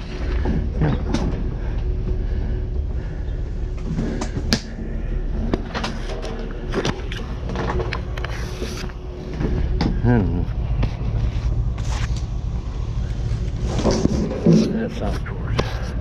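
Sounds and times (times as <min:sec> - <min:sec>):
knocks clanks and rattles: 0:00.0 - 0:16.0
steady low rumble: 0:00.0 - 0:16.0.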